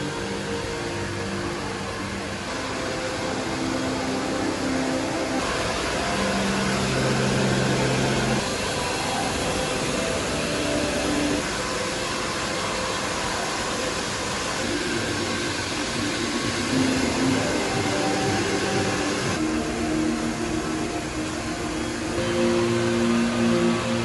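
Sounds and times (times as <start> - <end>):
station concourse roar: 0.0 - 24.0.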